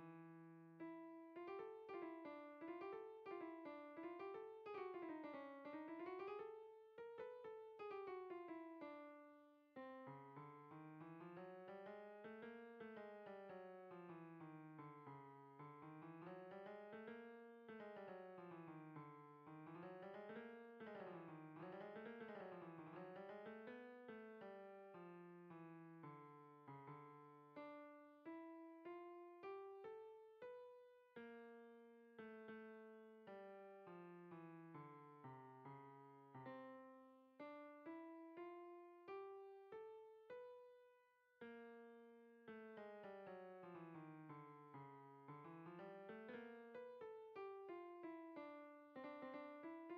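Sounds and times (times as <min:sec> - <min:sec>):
keyboard melody: 0:00.8 - 0:40.7, 0:42.5 - 0:49.9.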